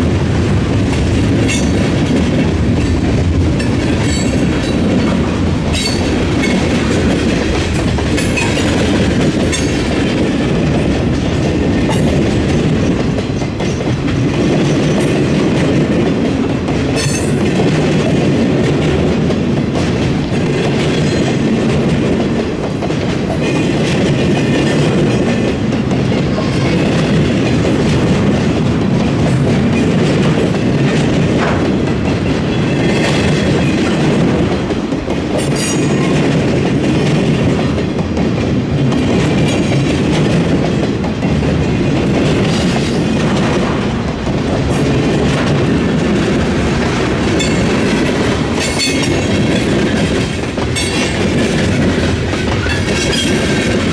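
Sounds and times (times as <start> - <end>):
train wheels clattering: 0.0 - 53.9.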